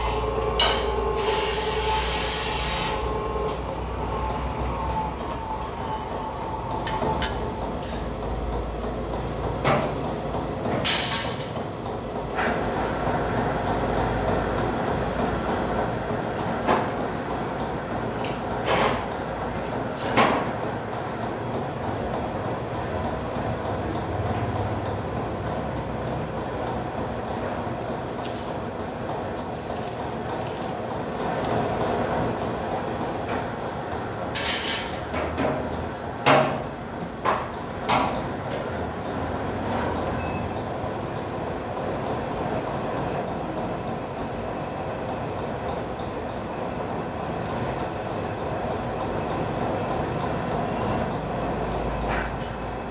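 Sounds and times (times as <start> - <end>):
metal squeal of drum cutter: 0.0 - 52.9.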